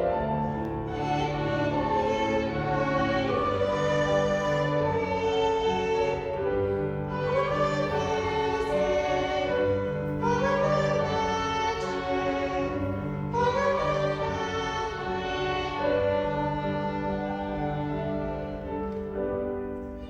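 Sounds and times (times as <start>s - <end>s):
piano: 0.0s - 20.0s
violins: 0.0s - 20.0s.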